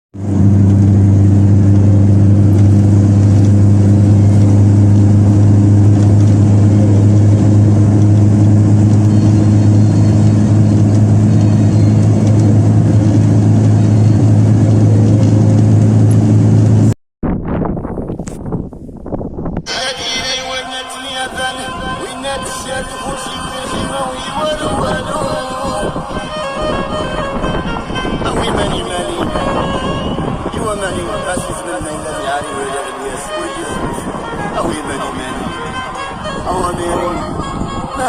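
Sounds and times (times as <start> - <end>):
low engine drone: 0.2 - 17.0, 19.7 - 38.0.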